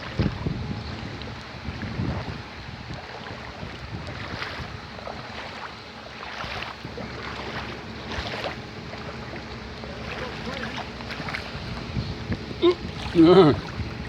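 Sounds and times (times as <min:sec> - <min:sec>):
floodwater rushing: 0:00.0 - 0:14.0
wind buffeting microphone: 0:00.0 - 0:14.0.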